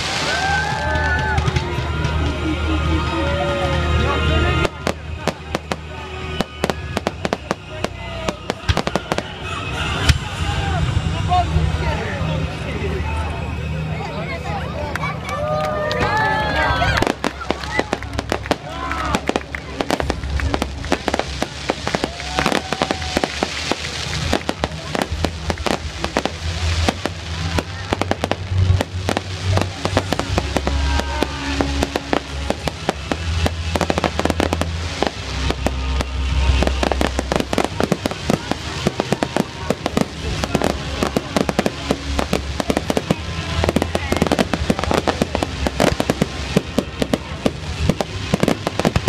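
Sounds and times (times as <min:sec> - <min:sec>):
fireworks bursting and crackling: 0:00.0 - 0:13.8, 0:16.0 - 0:49.0.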